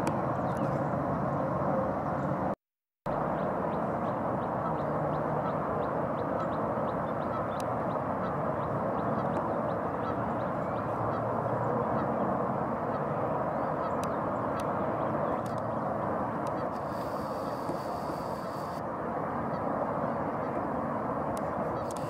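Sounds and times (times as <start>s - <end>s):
ducks and geese calling: 3.3s - 20.7s, 21.5s - 22.0s.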